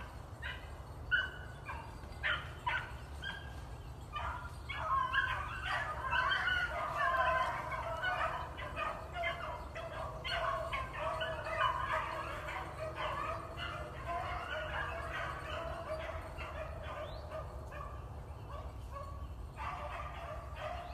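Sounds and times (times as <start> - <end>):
hounds baying: 0.0 - 20.9.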